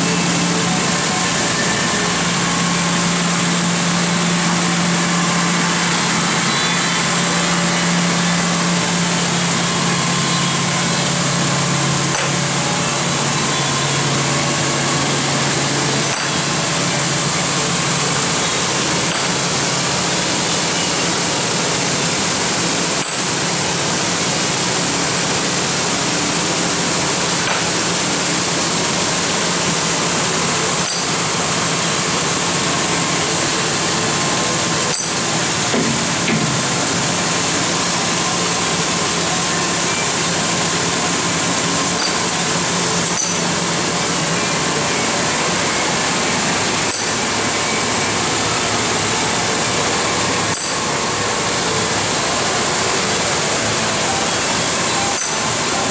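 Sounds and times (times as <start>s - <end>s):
grinding and coolant hiss: 0.0s - 55.9s.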